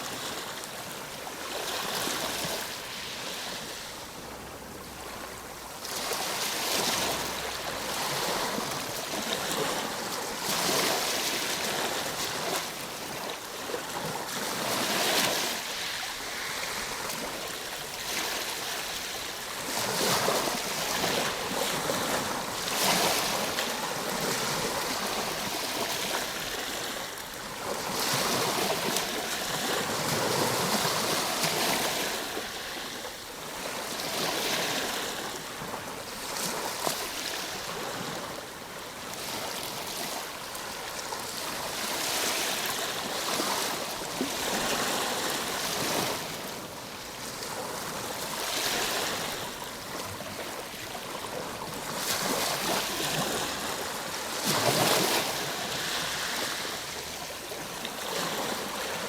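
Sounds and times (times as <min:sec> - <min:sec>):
ocean waves breaking: 0:00.0 - 0:38.4, 0:39.1 - 0:59.0.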